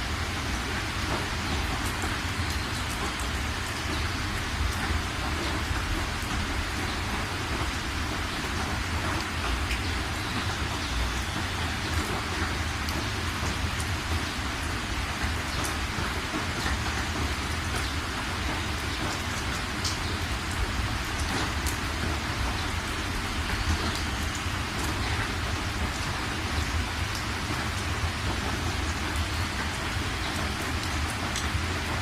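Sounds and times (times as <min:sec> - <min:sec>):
raindrops ticking on surfaces: 0:00.0 - 0:32.0
steady rain: 0:00.0 - 0:32.0.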